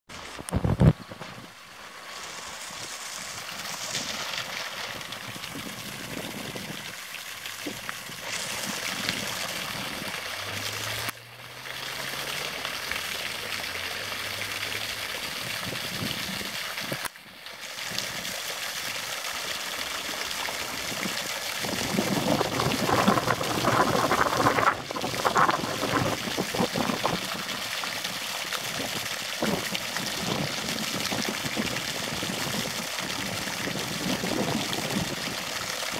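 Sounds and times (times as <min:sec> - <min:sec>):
creek water running over stones: 0:00.1 - 0:35.9.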